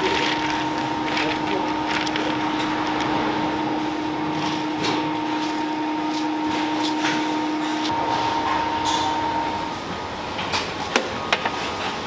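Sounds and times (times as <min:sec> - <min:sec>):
kitchen machine hum: 0:00.0 - 0:12.0.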